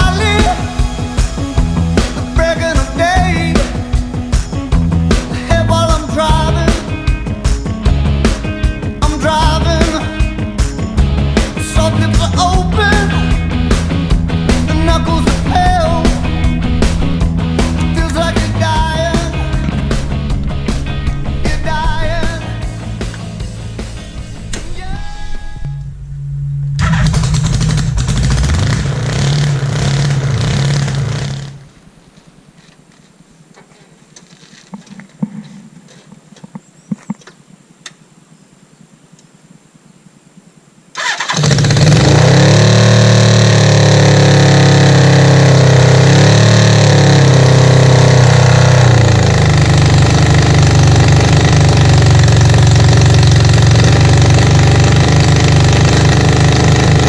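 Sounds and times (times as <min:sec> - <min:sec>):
motorcycle engine revving: 0:00.0 - 0:31.8, 0:41.0 - 0:57.0.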